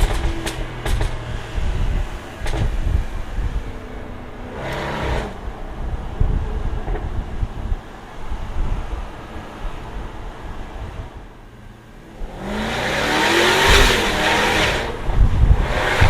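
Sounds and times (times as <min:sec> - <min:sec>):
car exhaust crackling and popping: 0:00.0 - 0:16.0.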